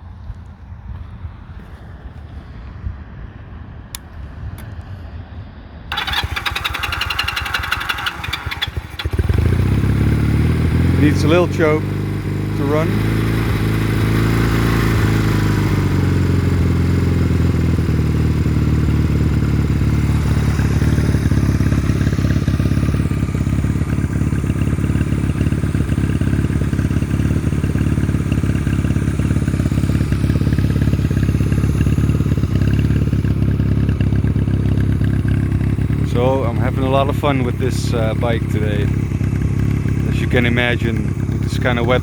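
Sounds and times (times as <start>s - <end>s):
motorcycle engine idling: 5.9s - 42.0s.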